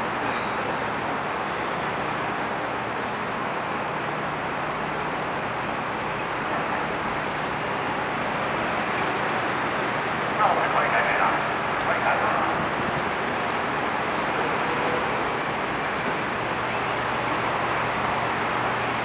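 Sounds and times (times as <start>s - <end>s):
boat engines running: 0.0s - 19.0s.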